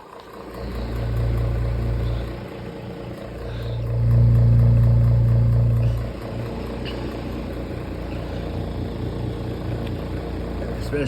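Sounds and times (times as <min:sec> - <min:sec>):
electric fan humming and rattling: 0:00.0 - 0:11.0.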